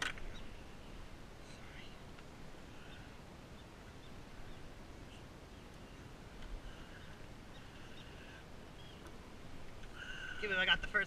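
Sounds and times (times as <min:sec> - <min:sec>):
faint outdoor noise: 0:00.0 - 0:11.0.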